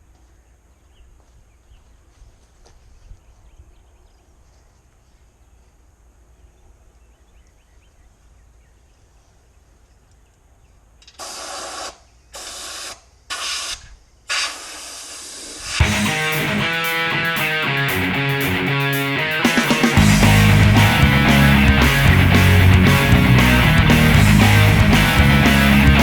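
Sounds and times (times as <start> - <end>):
faint outdoor ambience: 0.0 - 26.0.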